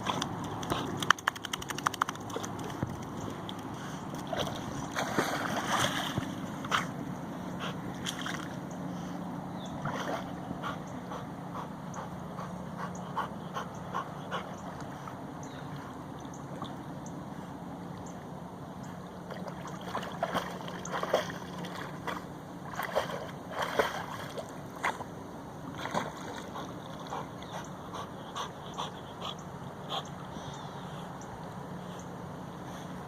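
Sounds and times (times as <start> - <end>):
water splashing and sloshing: 0.0 - 28.9
low steady hum: 0.0 - 33.0.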